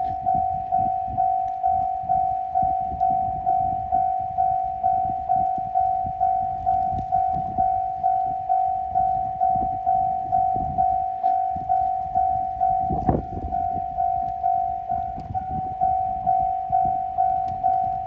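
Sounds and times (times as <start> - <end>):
railroad crossing bell ringing: 0.0 - 18.0.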